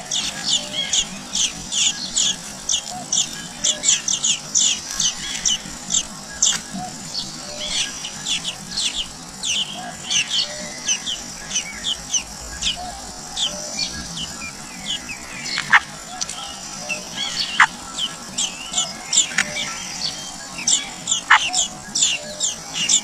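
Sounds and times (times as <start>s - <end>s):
down-sweeping bird calls: 0.0s - 23.0s
nestlings begging chirps: 0.0s - 23.0s.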